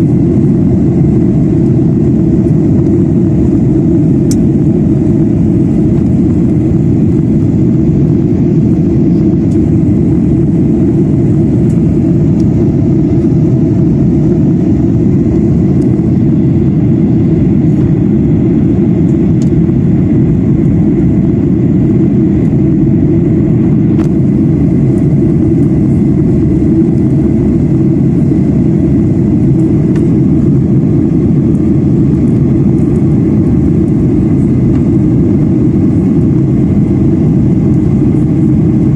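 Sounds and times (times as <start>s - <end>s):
jet engines and airflow rushing: 0.0s - 38.9s.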